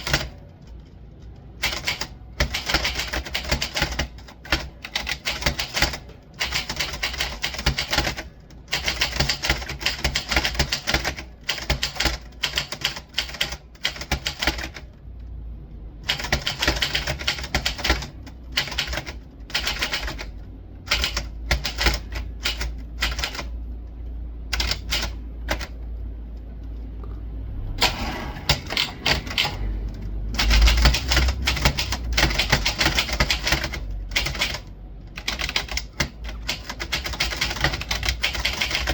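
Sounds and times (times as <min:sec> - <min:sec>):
typewriter keys clacking: 0:00.0 - 0:14.9, 0:16.0 - 0:23.5, 0:24.5 - 0:25.8, 0:27.8 - 0:38.9.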